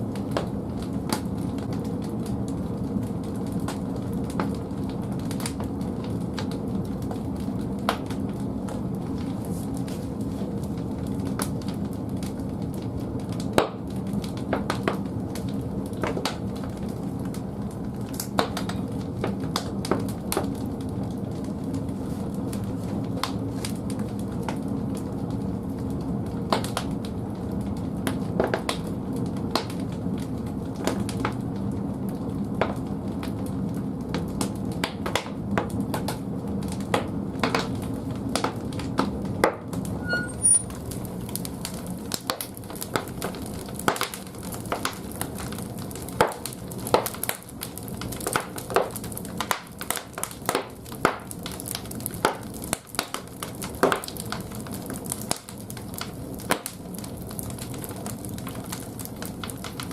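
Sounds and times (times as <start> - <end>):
fire roaring: 0.0 - 59.9
wood crackling and popping: 0.0 - 59.9.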